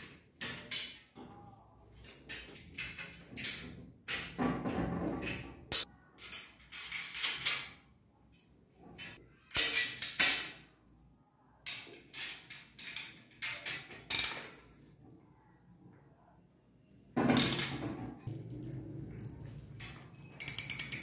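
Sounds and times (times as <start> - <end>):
metal bicycle parts clicking and rattling: 0.0 - 10.8, 11.6 - 14.8, 17.2 - 21.0.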